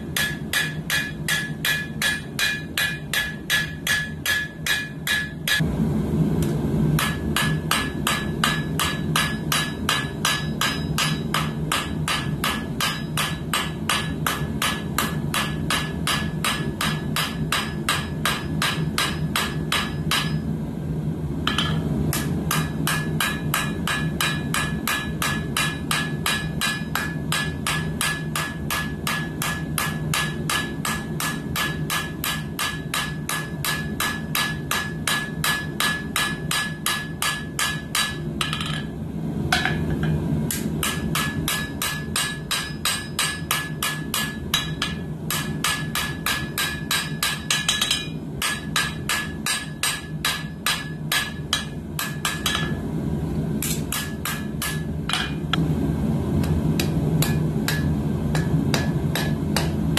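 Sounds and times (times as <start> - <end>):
hammer striking steel on anvil: 0.0 - 5.6, 6.4 - 20.5, 21.4 - 38.9, 39.5 - 52.9, 53.6 - 55.6, 56.4 - 59.9
steady low hum: 0.0 - 59.9.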